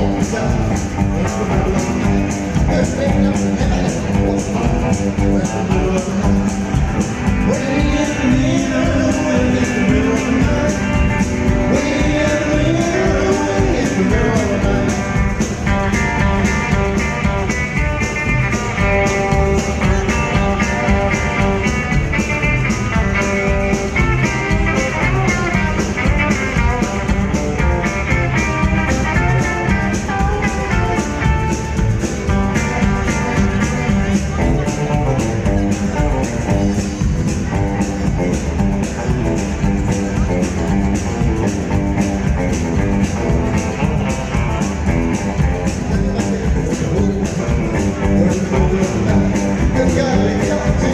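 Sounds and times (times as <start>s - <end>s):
rockabilly band instrumental: 0.0s - 50.9s.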